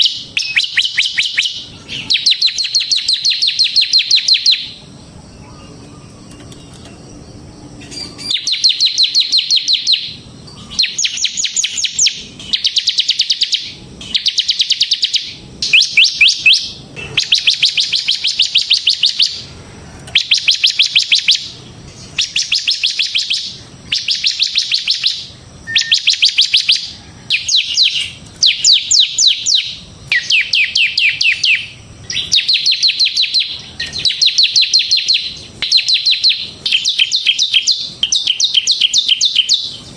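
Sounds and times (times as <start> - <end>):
bird singing rapid trills: 0.0 - 19.5, 20.1 - 39.9.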